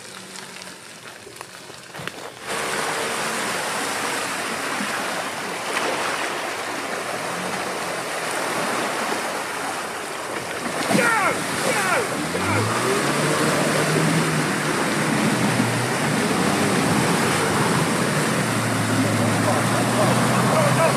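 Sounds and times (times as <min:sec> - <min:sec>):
tyres splashing through muddy water: 0:00.0 - 0:20.9.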